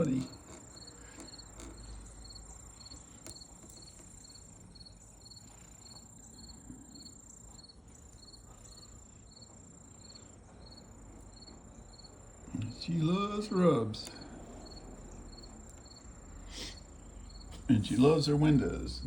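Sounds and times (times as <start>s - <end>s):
cricket chirping: 0.0s - 12.8s, 14.0s - 18.1s.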